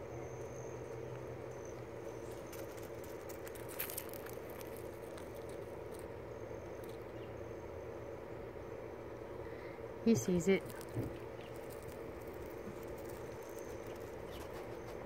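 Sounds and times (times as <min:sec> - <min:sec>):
faint insect trill: 0:00.0 - 0:15.0
steady low hum: 0:00.0 - 0:15.0.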